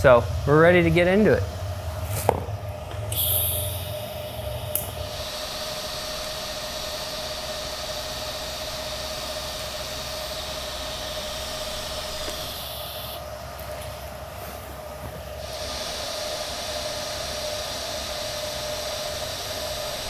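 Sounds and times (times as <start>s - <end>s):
faint steady whine: 0.0s - 20.0s
welding arc hiss: 3.0s - 20.0s.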